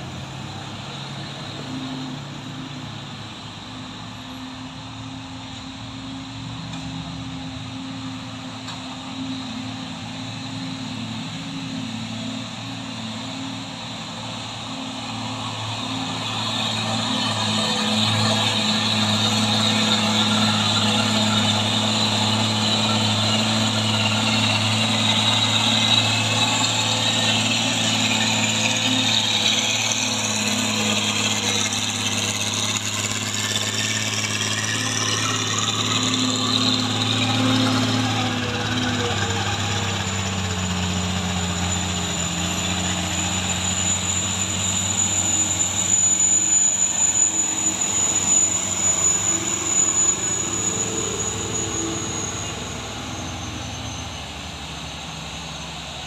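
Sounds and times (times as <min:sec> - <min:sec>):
diesel truck engines droning: 0:00.0 - 0:56.0
thin high whine: 0:00.5 - 0:56.0.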